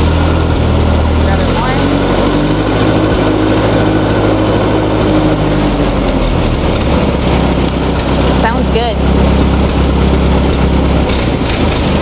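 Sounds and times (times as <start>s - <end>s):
tractor engine revving: 0.0s - 12.0s.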